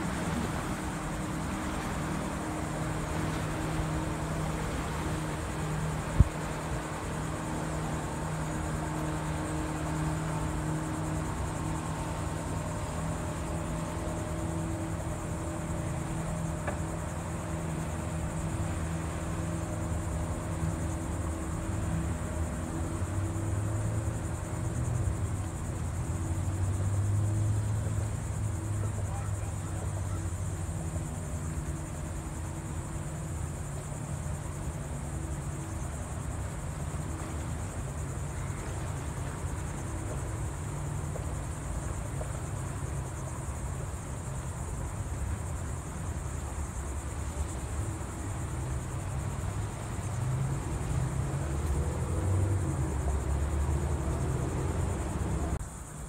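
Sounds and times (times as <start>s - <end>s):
motorboat engine humming: 0.0s - 55.8s
insects buzzing: 0.0s - 56.0s.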